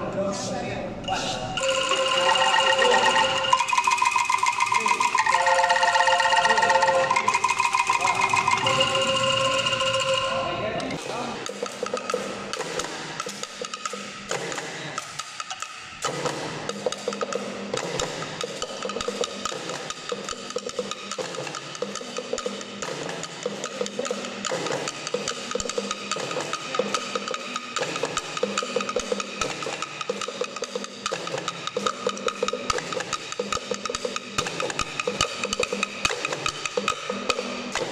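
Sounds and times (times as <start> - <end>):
bamboo percussion ensemble: 1.0 - 37.9.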